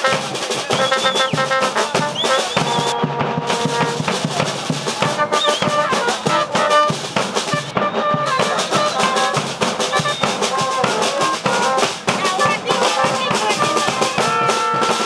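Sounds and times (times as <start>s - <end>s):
brass holding notes: 0.0s - 15.0s
drums and cymbals beating: 0.0s - 15.0s.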